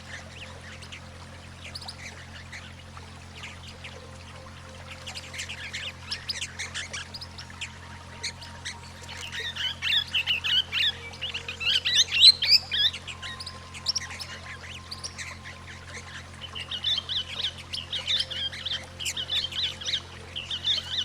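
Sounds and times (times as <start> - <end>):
steady low drone: 0.0 - 21.0.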